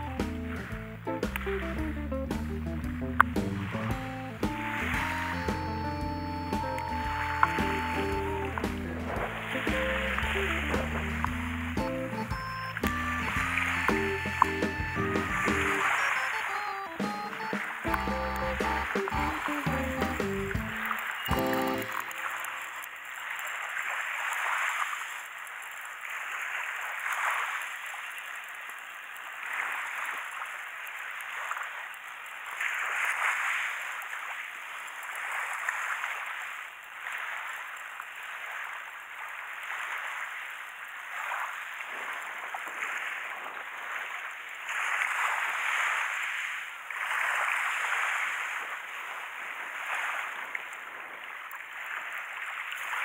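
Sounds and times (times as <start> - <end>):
small waves washing ashore: 3.5 - 53.0.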